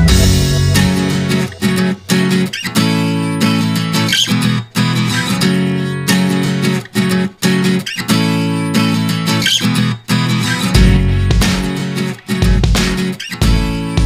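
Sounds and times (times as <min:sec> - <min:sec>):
strummed acoustic guitar music: 0:00.0 - 0:14.0.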